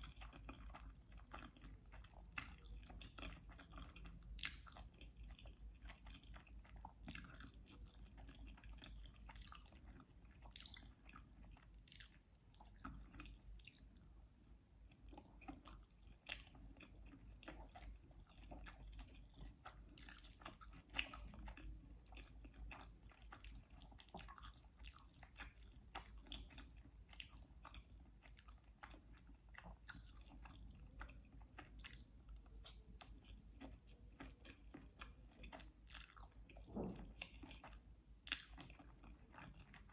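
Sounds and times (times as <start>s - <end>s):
person chewing and biting food: 0.0s - 13.9s, 14.8s - 39.9s.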